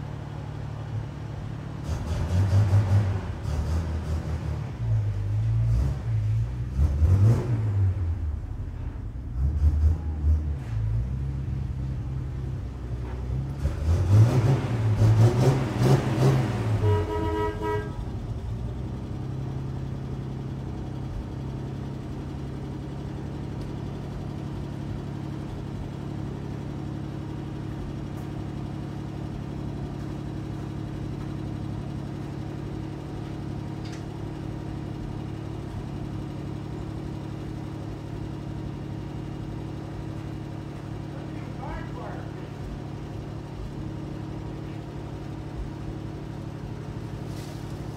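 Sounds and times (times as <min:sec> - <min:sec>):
car engine revving and idling: 0:00.0 - 0:47.9.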